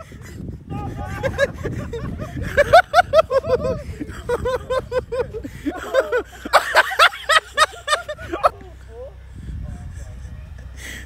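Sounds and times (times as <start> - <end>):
people laughing: 0.0 - 9.1.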